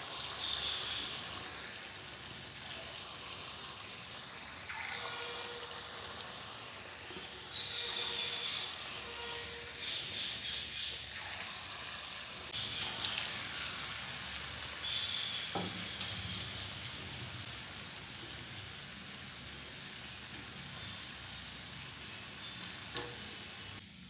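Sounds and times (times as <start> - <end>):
oil sizzling while deep-frying: 0.0 - 24.0.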